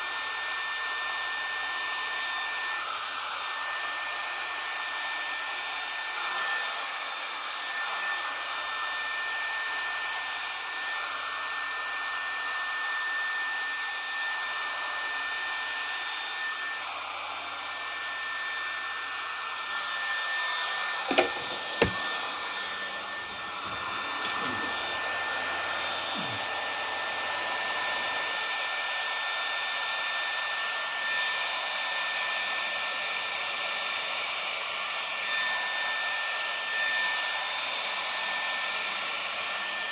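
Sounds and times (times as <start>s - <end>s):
hair clippers whirring: 0.0s - 39.9s.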